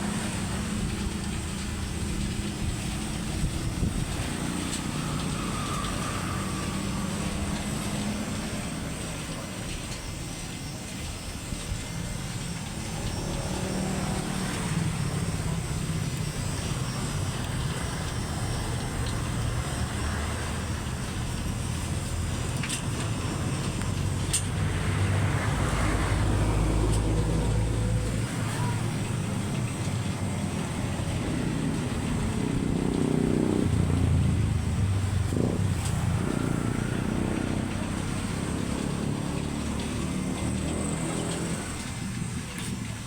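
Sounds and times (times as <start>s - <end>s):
low traffic rumble: 0.0s - 43.0s.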